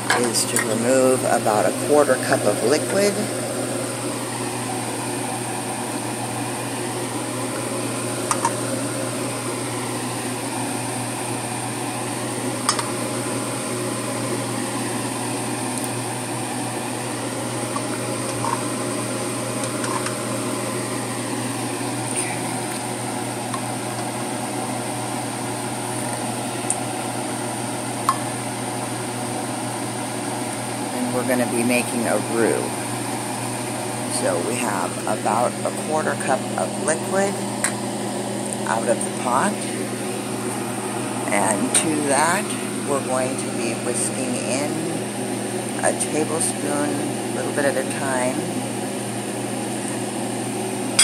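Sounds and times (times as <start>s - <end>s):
fan whirring hum: 0.0s - 51.0s.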